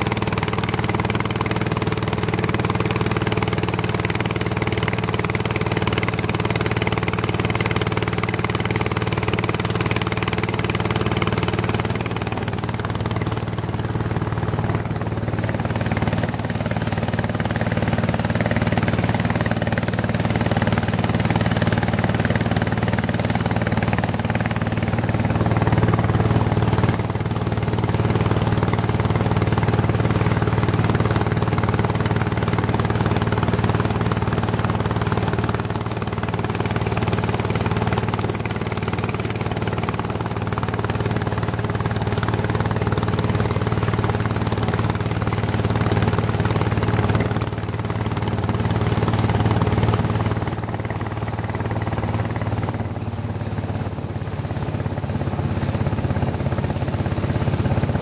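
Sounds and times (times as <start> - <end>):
boat engines droning: 0.0 - 58.0
wind and water hiss: 0.0 - 58.0.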